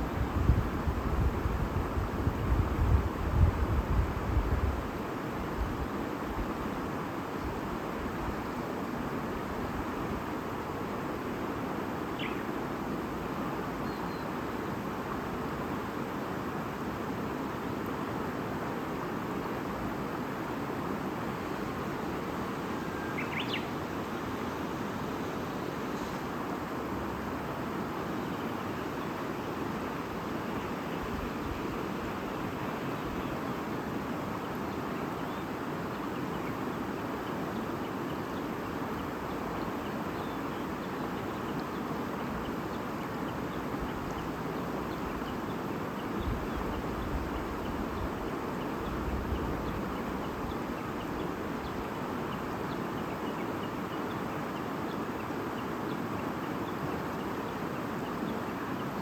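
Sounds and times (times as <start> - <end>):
babbling stream: 0.0 - 59.0.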